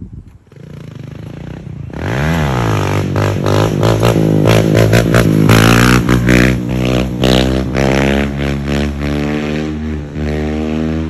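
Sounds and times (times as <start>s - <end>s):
dirt bike engine revving: 0.5s - 11.0s.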